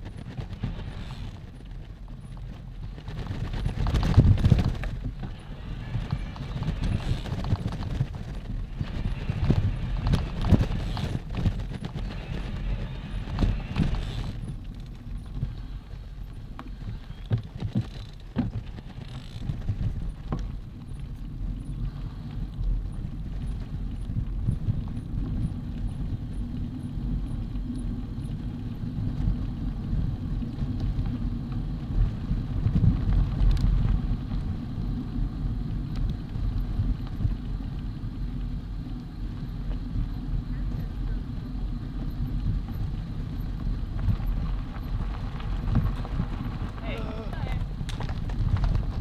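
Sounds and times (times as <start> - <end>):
bike clicks and rattles: 0.0 - 49.0
bike tyres rumbling on gravel: 0.0 - 49.0.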